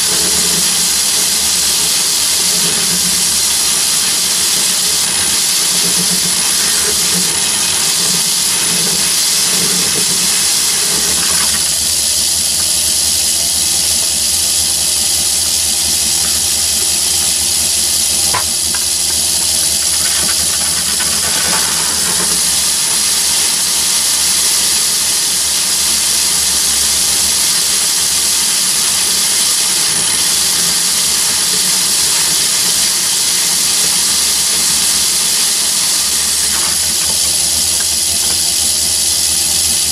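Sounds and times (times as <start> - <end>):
lathe drill cutting steel: 0.0 - 39.9
thin high whine: 0.0 - 39.9.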